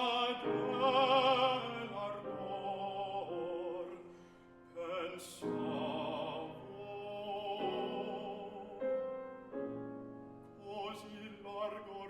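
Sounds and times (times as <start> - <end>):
baritone singing operatically: 0.0 - 4.1, 4.7 - 9.0, 10.6 - 12.0
piano accompaniment: 0.0 - 12.0.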